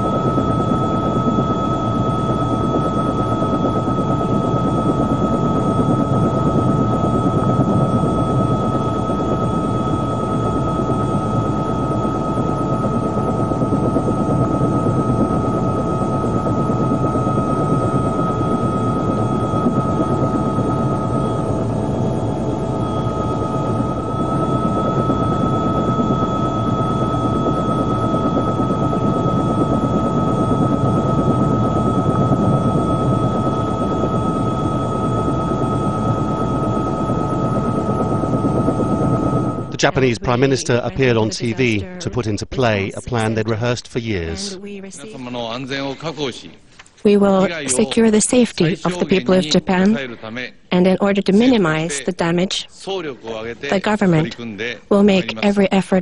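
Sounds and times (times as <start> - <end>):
helicopter turbine and rotor drone: 0.0 - 56.0
high turbine whine: 0.0 - 56.0.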